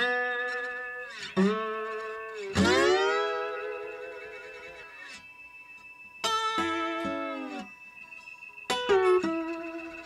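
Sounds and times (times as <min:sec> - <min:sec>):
guitar chord ringing: 0:00.0 - 0:10.0.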